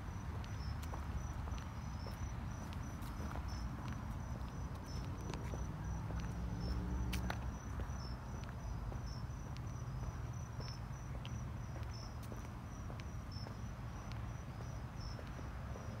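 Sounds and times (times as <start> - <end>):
footsteps on pavement: 0.0 - 16.0
insects chirping: 0.0 - 16.0.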